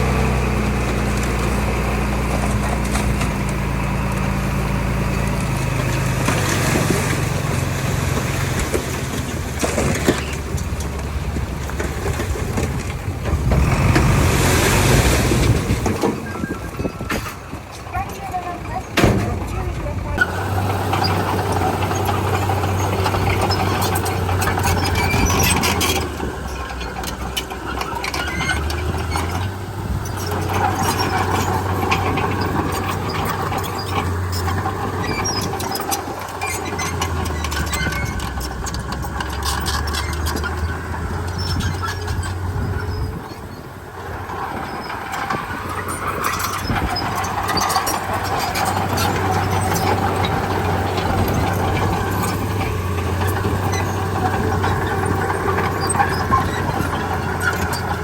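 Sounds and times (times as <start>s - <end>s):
bulldozer diesel engine: 0.0s - 58.0s
squealing clanking steel tracks: 0.0s - 58.0s.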